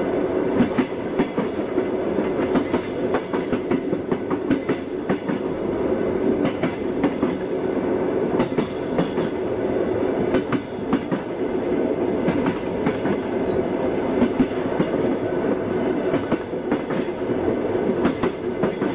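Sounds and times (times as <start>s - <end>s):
railway carriage rolling rumble: 0.0s - 18.9s
train wheels clickety-clack: 0.0s - 18.9s.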